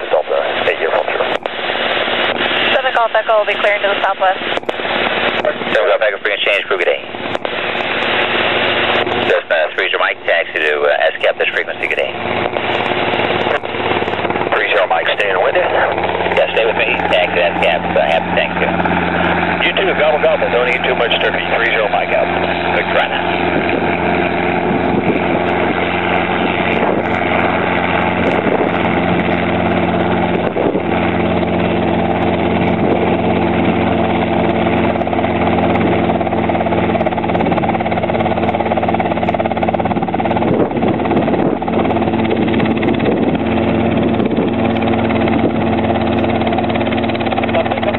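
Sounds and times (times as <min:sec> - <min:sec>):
helicopter hovering drone: 0:00.0 - 0:47.9.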